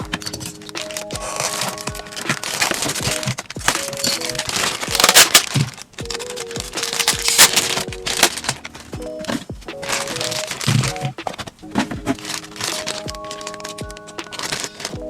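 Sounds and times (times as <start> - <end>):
background music with held notes: 0.0 - 15.0
plastic packaging crinkling: 0.4 - 8.9, 9.8 - 15.0.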